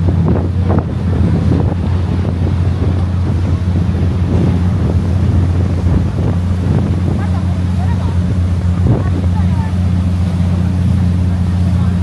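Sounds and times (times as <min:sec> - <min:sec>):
boat engine droning: 0:00.0 - 0:12.0
water rushing along hull: 0:00.0 - 0:12.0
wind buffeting microphone: 0:00.0 - 0:12.0.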